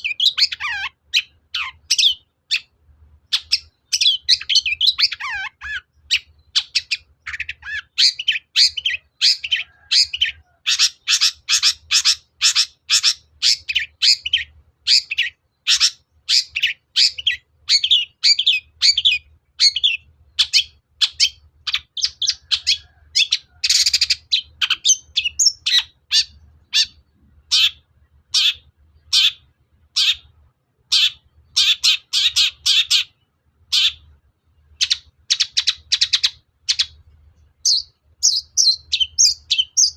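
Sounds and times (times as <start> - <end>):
bird singing harsh notes: 3.3 - 37.0, 37.6 - 39.9.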